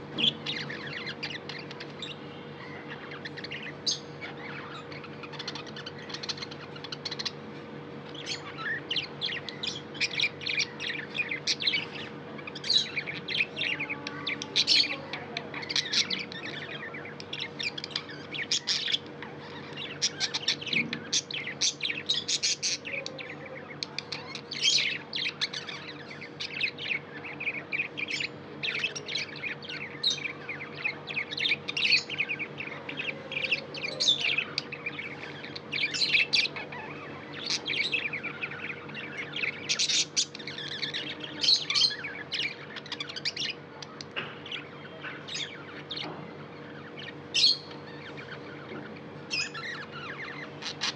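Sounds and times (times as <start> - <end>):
faint low hum: 0.0 - 50.9
budgerigars chirping: 0.1 - 50.9.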